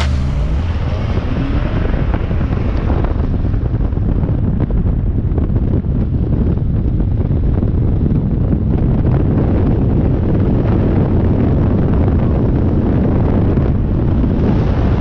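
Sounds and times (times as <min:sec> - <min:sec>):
road and engine rumble: 0:00.0 - 0:15.0
wind buffeting microphone: 0:00.0 - 0:15.0.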